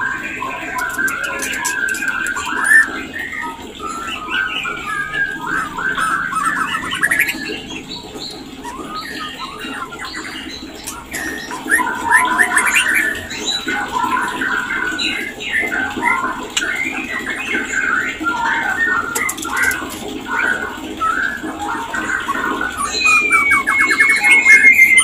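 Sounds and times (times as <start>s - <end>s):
songbird singing chattering trills: 0.1s - 25.0s.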